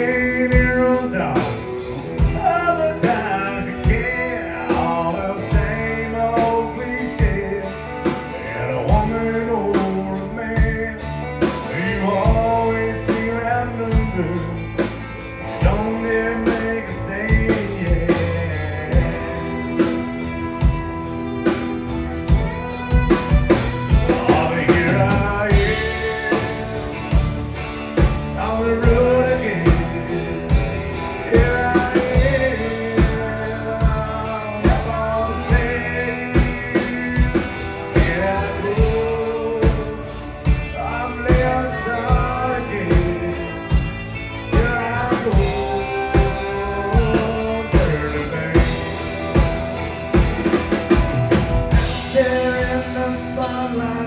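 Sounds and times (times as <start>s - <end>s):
acoustic guitar: 0.0s - 54.0s
drum kit beat: 0.0s - 54.0s
electric bass: 0.0s - 54.0s
fiddle: 0.0s - 54.0s
man singing: 0.0s - 54.0s.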